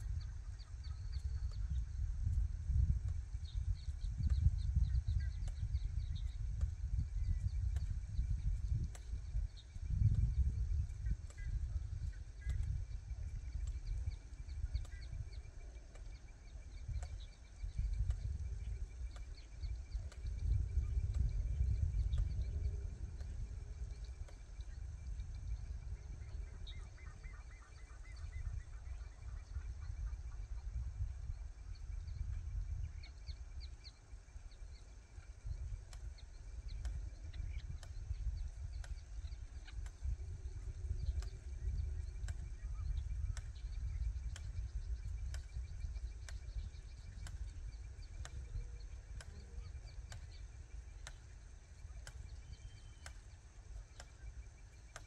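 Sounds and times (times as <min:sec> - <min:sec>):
low rumble: 0:00.0 - 0:55.0
small birds chirping: 0:00.0 - 0:55.0
sharp clicks: 0:03.0 - 0:27.9, 0:35.1 - 0:55.0.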